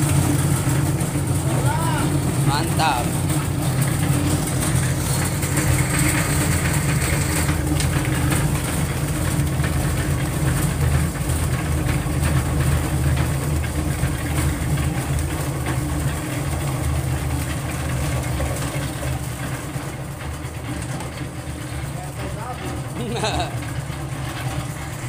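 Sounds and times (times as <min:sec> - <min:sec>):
concrete mixer motor humming: 0:00.0 - 0:25.0
wet concrete pouring: 0:00.0 - 0:25.0.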